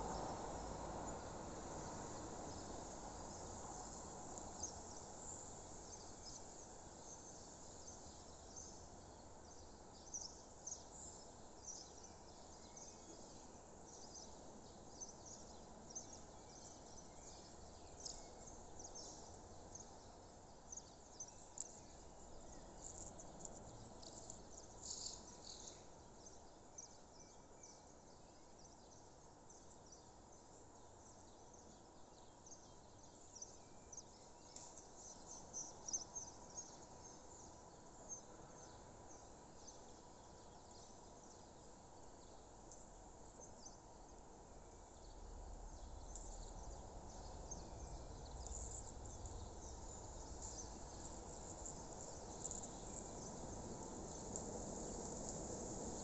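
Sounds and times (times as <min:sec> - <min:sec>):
soft low background noise: 0:00.0 - 0:56.0.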